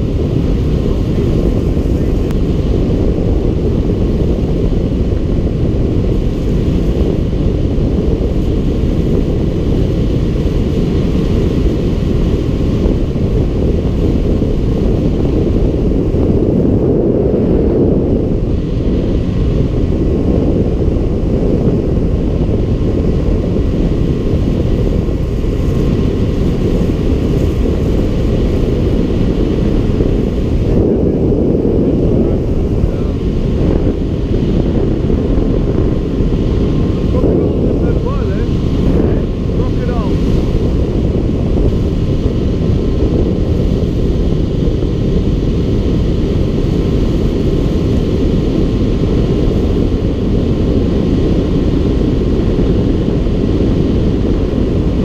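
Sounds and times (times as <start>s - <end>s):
speedboat engine running: 0.0s - 55.0s
wind buffeting microphone: 0.0s - 55.0s.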